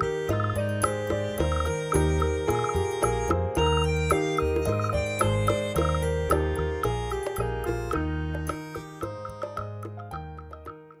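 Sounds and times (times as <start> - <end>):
bass line: 0.0 - 10.7
short ticking beats: 0.0 - 10.9.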